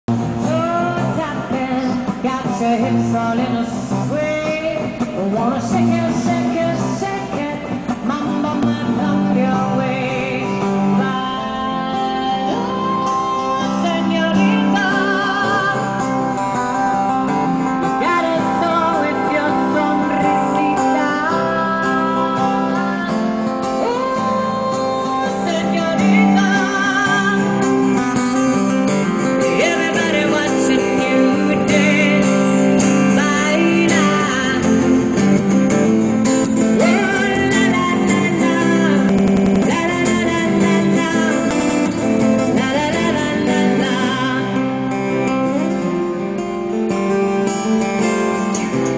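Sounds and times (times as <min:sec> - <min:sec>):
acoustic guitar strumming: 0:00.1 - 0:48.9
woman singing: 0:00.3 - 0:28.0, 0:29.4 - 0:45.3.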